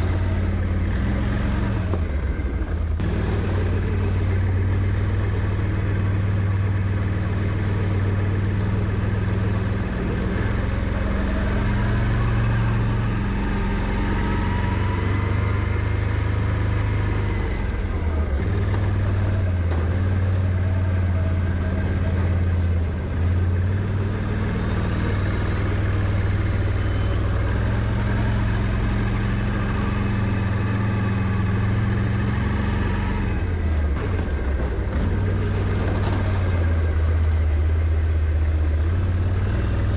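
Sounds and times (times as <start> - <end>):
engine running under load: 0.0 - 39.9.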